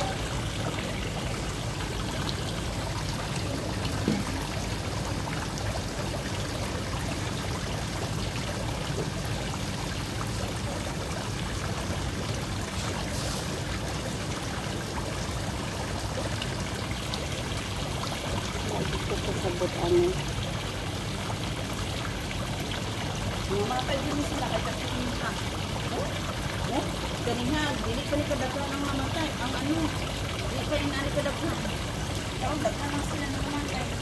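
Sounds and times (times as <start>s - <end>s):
water splashing and bubbling: 0.0s - 34.0s.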